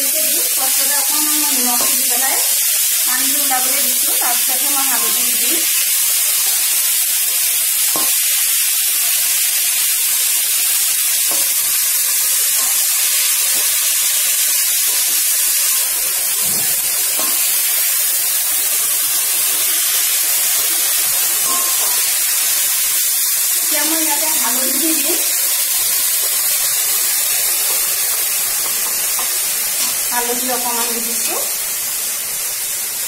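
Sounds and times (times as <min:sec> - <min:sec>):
greens sizzling in oil: 0:00.0 - 0:33.0.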